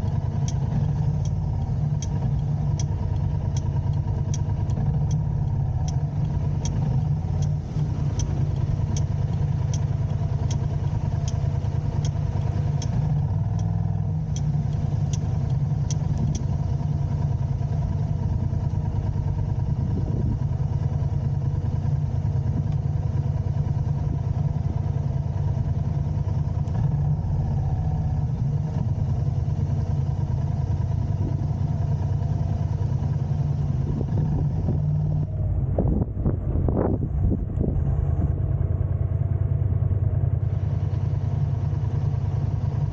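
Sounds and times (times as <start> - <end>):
light ticking: 0.0 - 35.4
car engine and road rumble: 0.0 - 42.9.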